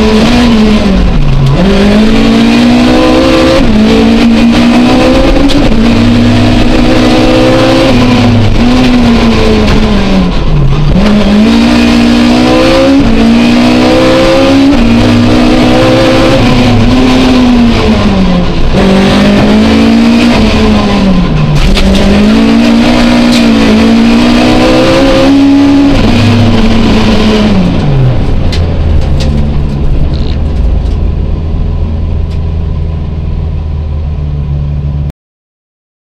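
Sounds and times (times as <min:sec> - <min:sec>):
rally car engine revving: 0:00.0 - 0:35.1.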